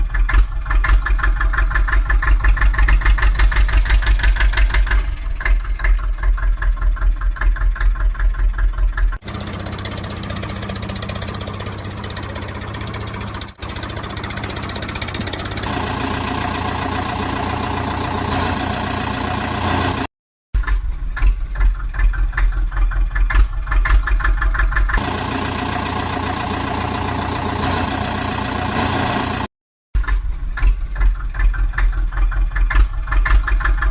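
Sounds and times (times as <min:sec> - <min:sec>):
backhoe engine idling: 0:00.0 - 0:20.1, 0:21.1 - 0:33.9.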